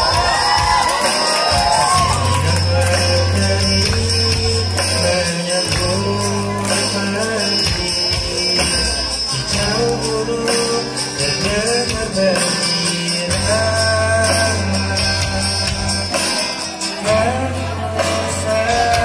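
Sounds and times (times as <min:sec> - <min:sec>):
song with singing and beat: 0:00.0 - 0:19.0.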